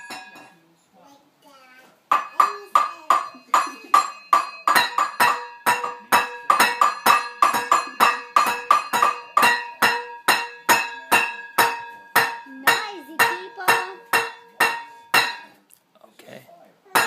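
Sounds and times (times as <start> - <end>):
clanking strikes on metal pot: 0.0 - 0.6, 2.1 - 15.6.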